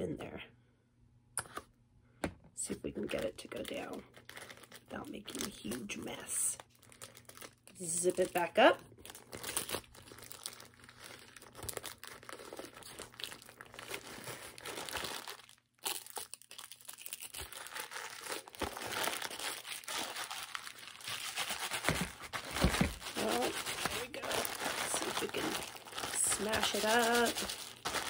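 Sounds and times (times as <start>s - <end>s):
plastic bag crinkling: 3.0s - 28.0s.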